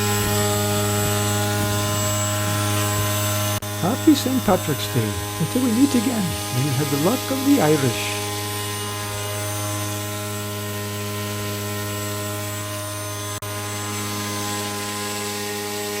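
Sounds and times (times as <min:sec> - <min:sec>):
model airplane motor droning: 0:00.0 - 0:16.0.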